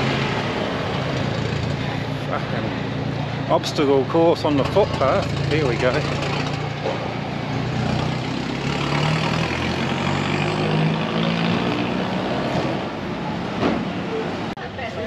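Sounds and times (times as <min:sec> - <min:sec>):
vehicle engine humming: 0:00.0 - 0:14.6
road noise: 0:00.0 - 0:15.0.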